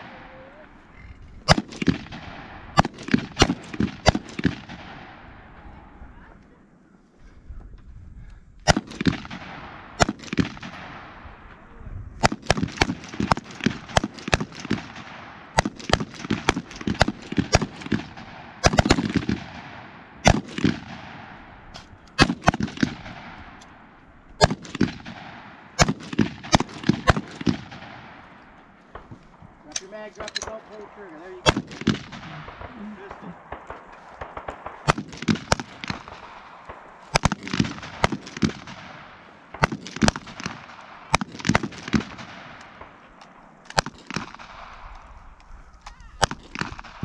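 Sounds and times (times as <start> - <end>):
rifle shots echoing: 0.0 - 6.3, 8.6 - 45.4, 46.0 - 47.0.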